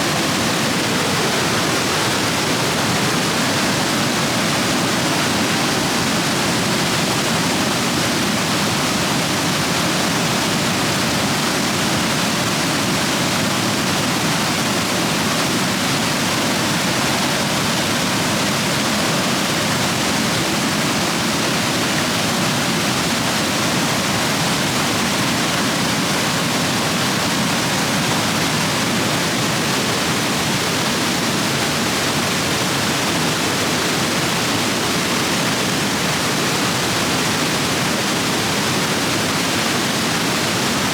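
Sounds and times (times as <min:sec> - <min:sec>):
stream rapids rushing over rocks: 0:00.0 - 0:40.9.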